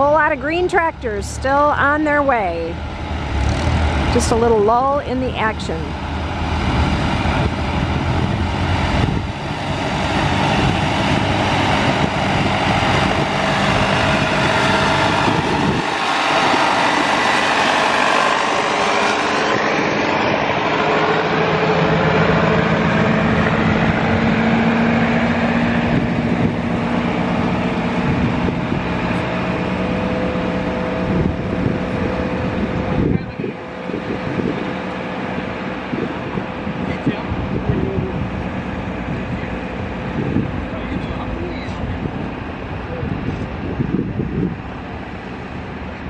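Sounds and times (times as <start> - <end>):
steady engine hum: 0.0 - 46.0
tractor engine driving past: 0.0 - 46.0.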